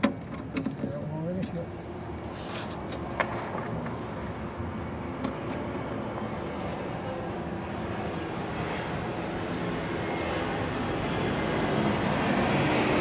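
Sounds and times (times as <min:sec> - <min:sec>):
engine-like drone: 0:00.0 - 0:13.0.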